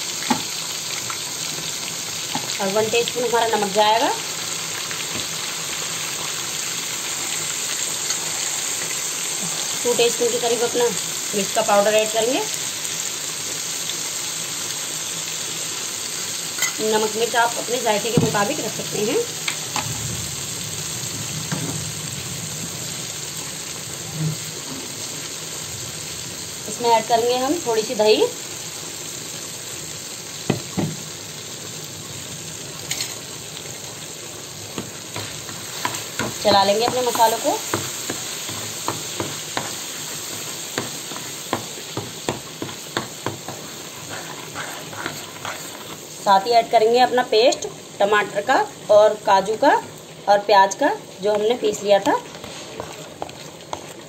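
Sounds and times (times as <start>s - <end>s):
oil sizzling in a frying pan: 0.0s - 54.0s.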